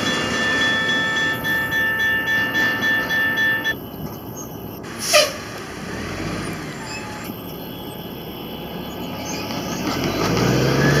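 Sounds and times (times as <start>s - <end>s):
freight train cars rumbling and rattling: 0.0s - 11.0s
road traffic moving off: 0.0s - 11.0s.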